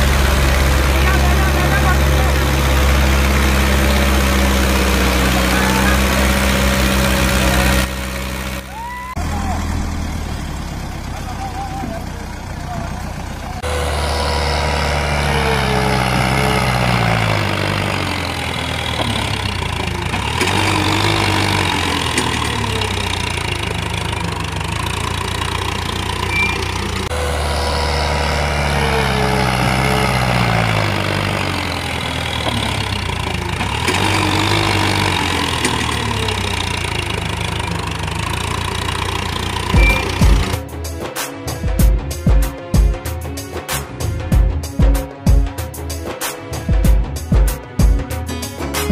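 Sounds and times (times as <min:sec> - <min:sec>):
tractor engine running: 0:00.0 - 0:40.7.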